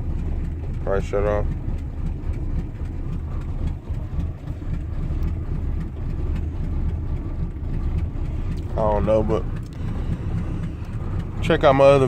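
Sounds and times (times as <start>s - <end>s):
car engine idling unevenly: 0.0s - 12.0s.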